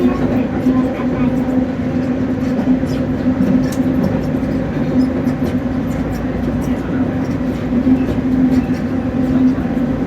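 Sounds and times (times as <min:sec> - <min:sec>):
subway train running in tunnel: 0:00.0 - 0:10.0.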